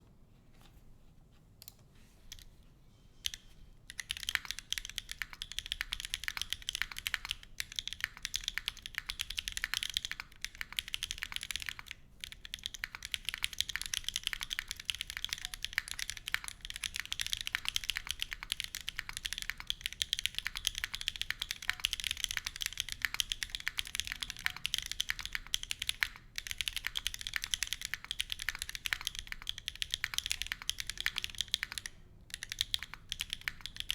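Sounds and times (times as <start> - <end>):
typing on mechanical keyboard: 3.2 - 33.9.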